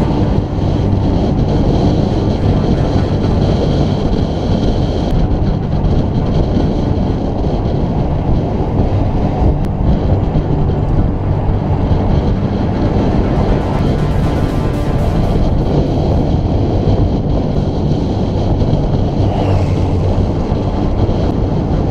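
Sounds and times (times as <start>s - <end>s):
bicycle road noise: 0.0s - 21.9s
heavy wind rumble on microphone: 0.0s - 21.9s.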